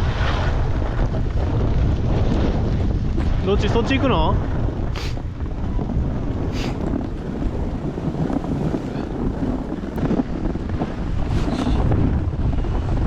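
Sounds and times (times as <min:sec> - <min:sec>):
skis scraping on snow: 0:00.0 - 0:04.2, 0:04.9 - 0:13.0
wind buffeting microphone: 0:00.0 - 0:13.0.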